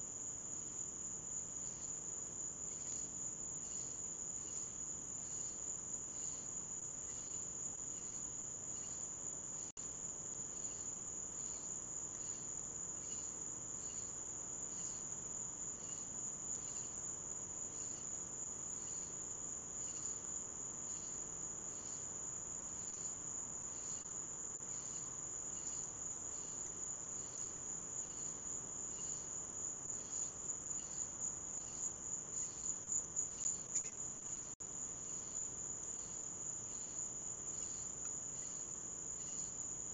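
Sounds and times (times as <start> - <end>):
crickets trilling: 0.0 - 39.9
slower pulsing insect call: 0.0 - 39.9.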